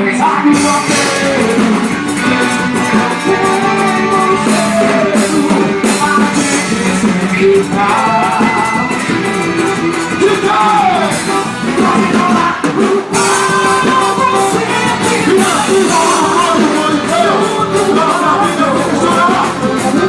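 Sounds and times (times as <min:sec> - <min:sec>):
music with singing voice: 0:00.0 - 0:20.0.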